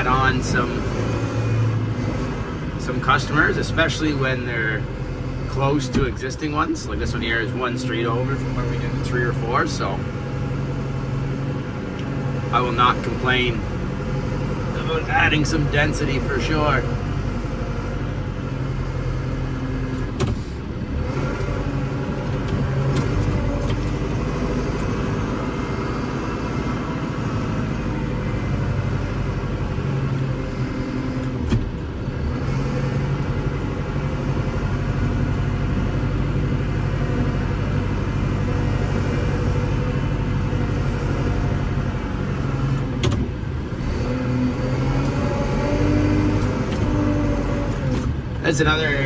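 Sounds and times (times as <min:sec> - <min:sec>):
clunks: 0:00.0 - 0:49.0
tractor diesel engine running: 0:00.0 - 0:49.0.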